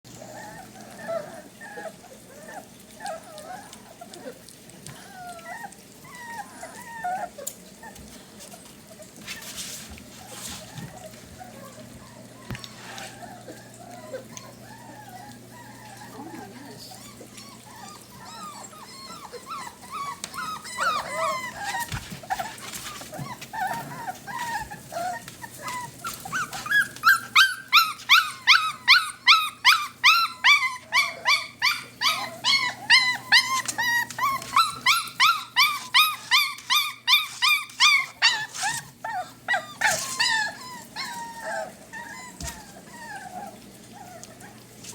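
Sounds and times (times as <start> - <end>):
puppies whining and yelping: 0.1 - 44.9.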